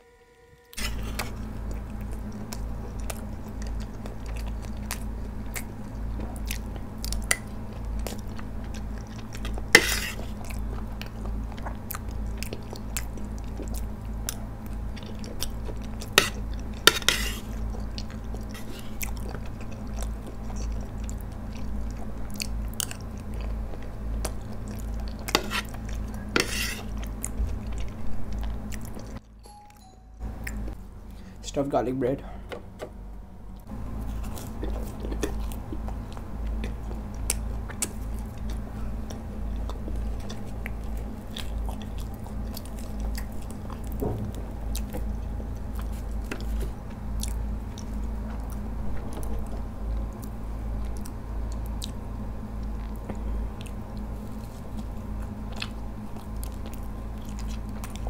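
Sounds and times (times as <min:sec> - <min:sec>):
steady low hum: 0:00.0 - 0:58.0
wet chewing of pasta: 0:00.7 - 0:29.3, 0:33.5 - 0:58.0.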